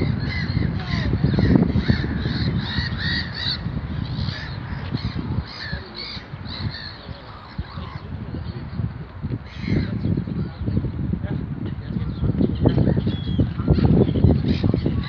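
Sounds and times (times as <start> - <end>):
gulls calling: 0.0 - 8.8, 9.4 - 10.9, 12.1 - 15.0.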